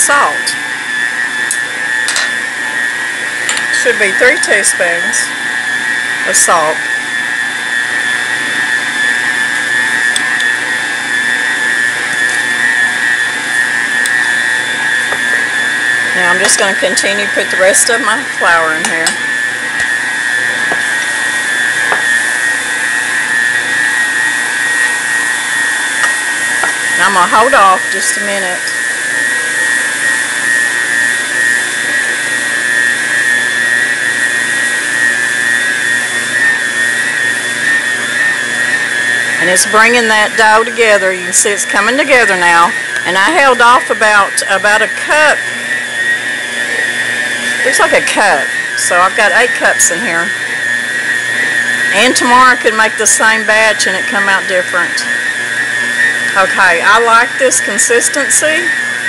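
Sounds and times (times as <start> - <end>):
stand mixer motor whine: 0.0 - 59.0.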